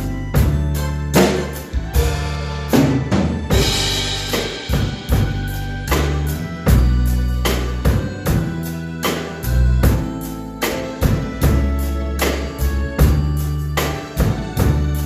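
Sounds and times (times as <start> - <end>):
drum kit playing: 0.0 - 15.0
pop backing track: 0.0 - 15.0.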